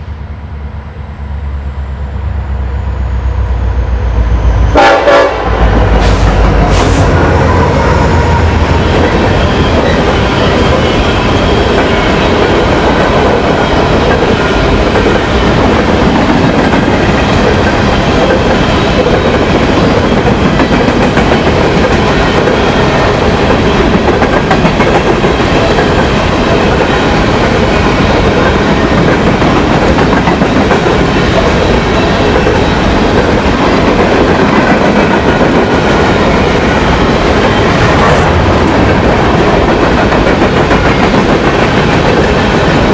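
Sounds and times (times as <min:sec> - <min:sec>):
train wheels rumbling on track: 0:00.0 - 0:42.9.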